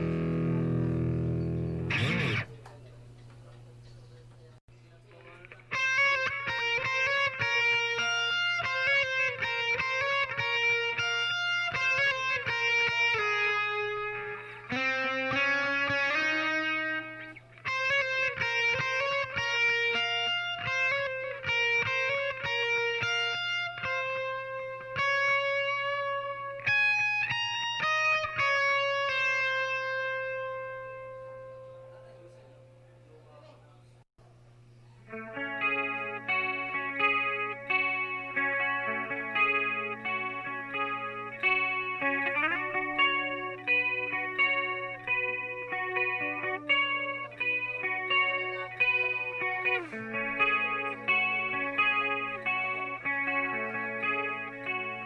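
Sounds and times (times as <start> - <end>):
overdriven electric guitar with delay: 0.0 - 2.8, 5.2 - 32.7, 35.0 - 55.0.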